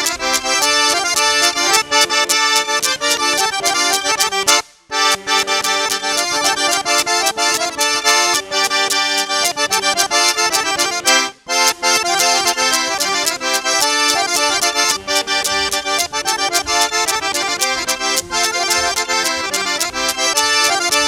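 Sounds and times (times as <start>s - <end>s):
accordion dance music: 0.0s - 21.0s
steady percussive beat: 0.0s - 21.0s.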